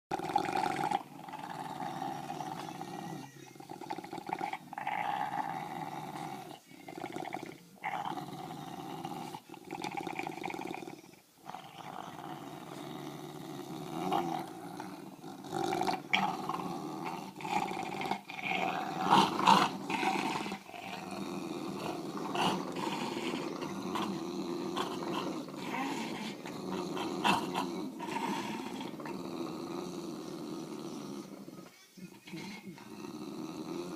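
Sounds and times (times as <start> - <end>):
dogs growling: 0.1 - 33.9.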